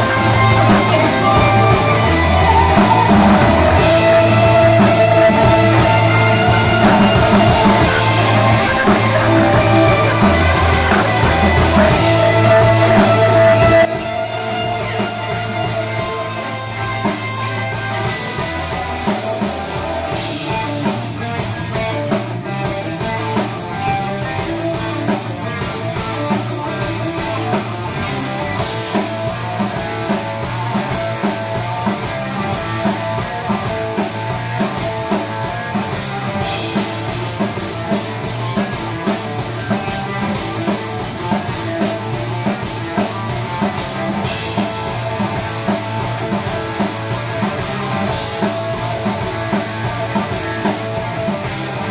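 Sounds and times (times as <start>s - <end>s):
rock band playing live: 0.0s - 51.9s.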